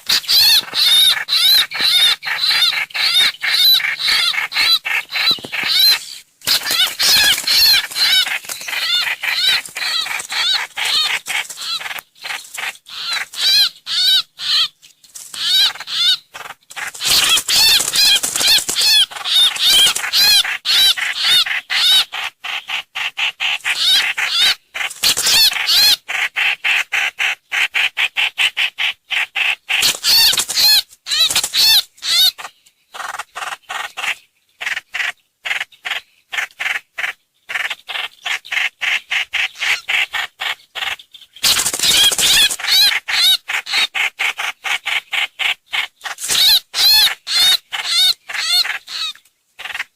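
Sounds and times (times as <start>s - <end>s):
high chirping bird calls: 0.0s - 26.0s, 29.1s - 49.9s.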